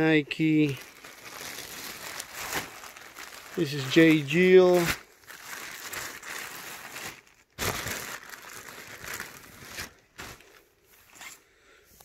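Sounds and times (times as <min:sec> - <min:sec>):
plastic bags crinkling: 0:00.0 - 0:11.4.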